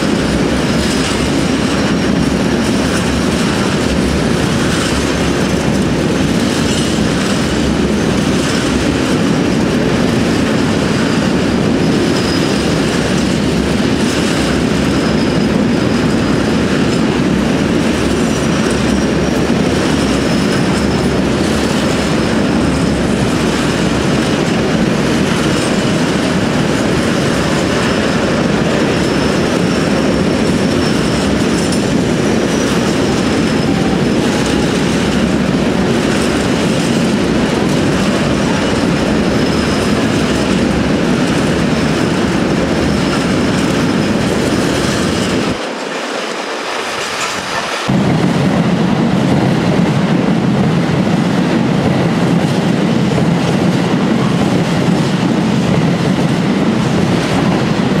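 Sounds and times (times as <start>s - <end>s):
wheels squealing: 0.0s - 47.9s
train wheels rumbling on rails: 0.0s - 58.0s.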